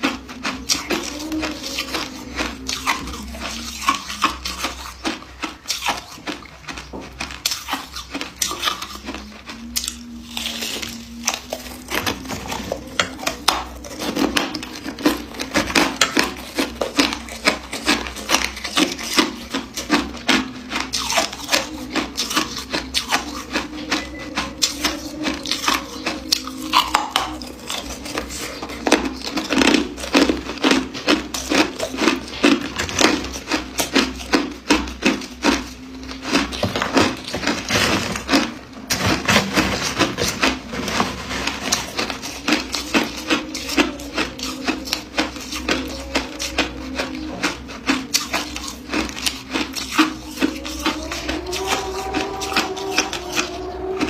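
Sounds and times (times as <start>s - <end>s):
ice being chewed and crunched: 0.0s - 54.0s.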